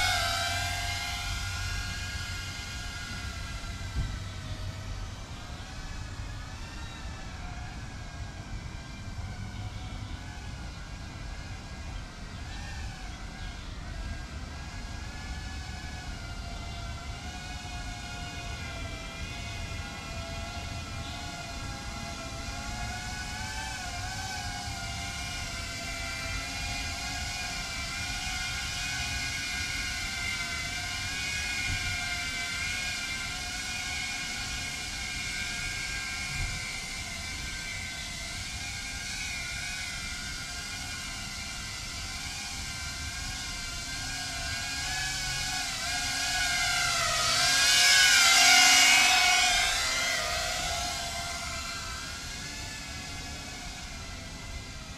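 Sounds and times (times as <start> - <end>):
quadcopter motors whining: 0.0 - 54.9.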